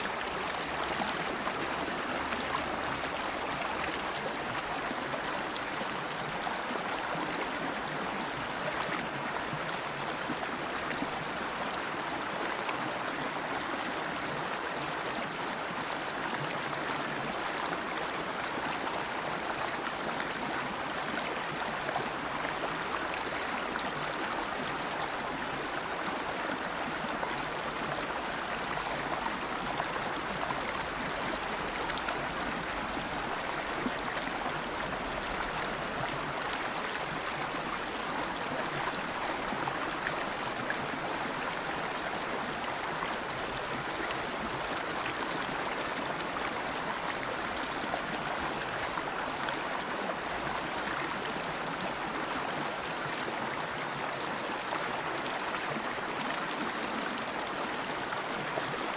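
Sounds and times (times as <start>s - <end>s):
river babbling over stones: 0.0s - 58.9s.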